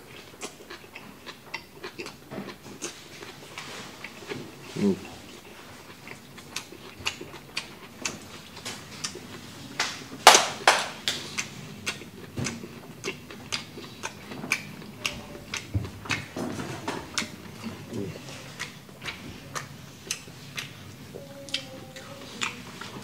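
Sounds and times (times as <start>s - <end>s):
man chewing food: 0.0s - 23.0s.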